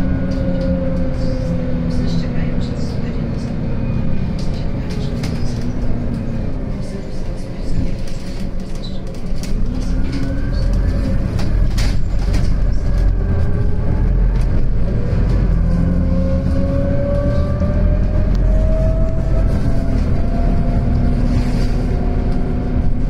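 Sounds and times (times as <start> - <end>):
bus engine rumbling: 0.0 - 23.0.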